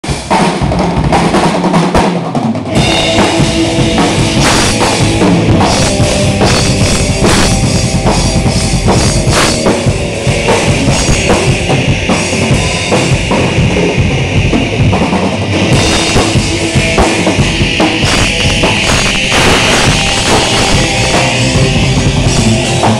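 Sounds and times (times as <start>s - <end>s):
bass drum and crashing cymbals: 0.0s - 22.9s
rock band playing: 0.0s - 22.9s.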